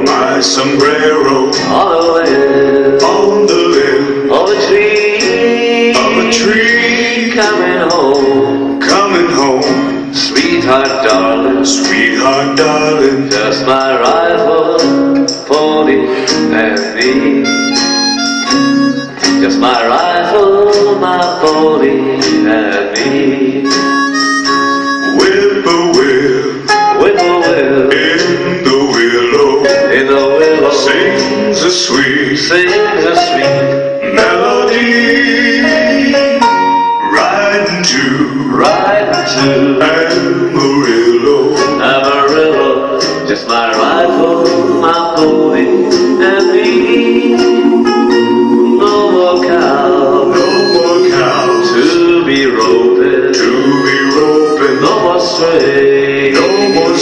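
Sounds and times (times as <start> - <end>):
slow country ballad backing track: 0.0 - 56.7
guitar accompaniment: 0.0 - 57.0
harmonica melody: 0.0 - 57.0.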